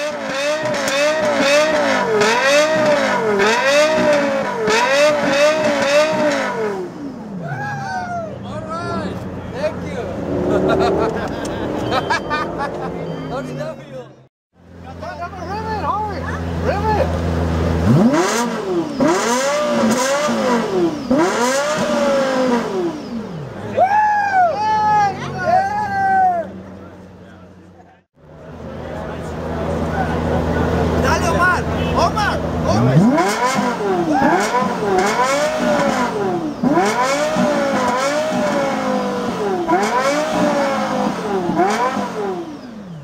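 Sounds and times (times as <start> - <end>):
car engine revving: 0.0 - 7.5, 8.5 - 23.8, 26.5 - 43.0.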